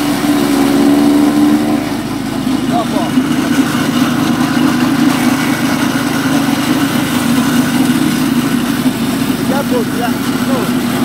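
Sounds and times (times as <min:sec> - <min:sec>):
chaff cutter engine running: 0:00.0 - 0:11.0.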